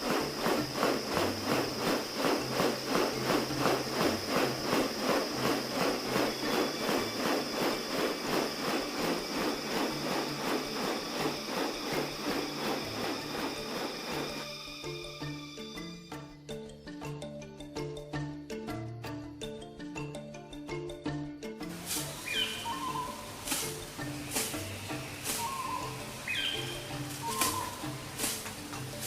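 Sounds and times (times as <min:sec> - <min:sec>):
background music with pulsing beat: 0:00.0 - 0:29.0.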